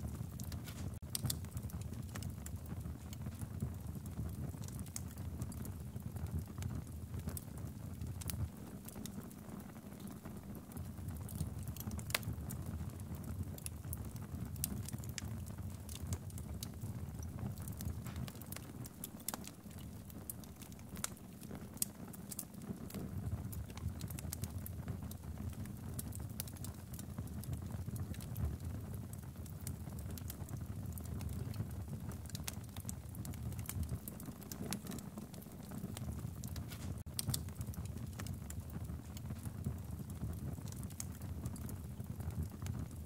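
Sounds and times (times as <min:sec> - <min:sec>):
low fire rumble: 0:00.0 - 0:43.0
wood fire crackling and popping: 0:00.0 - 0:43.0.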